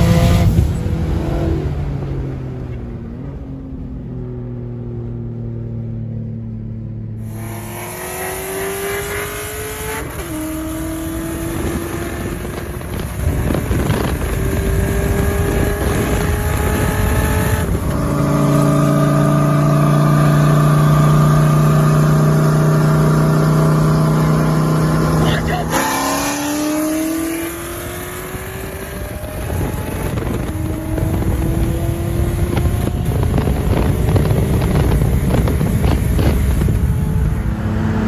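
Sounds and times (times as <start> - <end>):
car engine accelerating hard: 0.0 - 4.8, 5.6 - 38.0.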